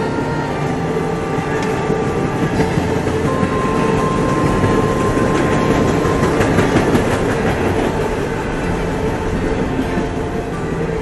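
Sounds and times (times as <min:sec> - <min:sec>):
clickety-clack over rail joints: 0:00.0 - 0:11.0
freight train wheels rumbling: 0:00.0 - 0:11.0
thin steady whine: 0:00.0 - 0:11.0.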